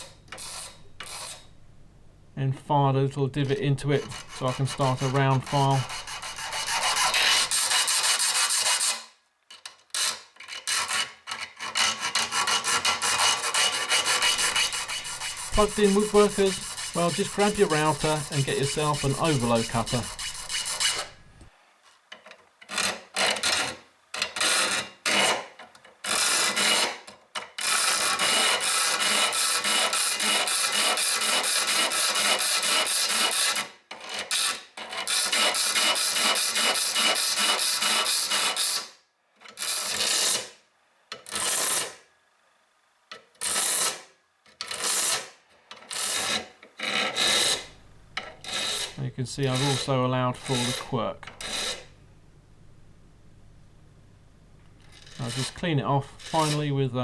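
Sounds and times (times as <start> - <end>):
file rasping on steel: 0.0 - 1.5, 3.9 - 21.2, 22.7 - 40.6, 41.2 - 42.0, 43.4 - 51.9, 54.9 - 56.7.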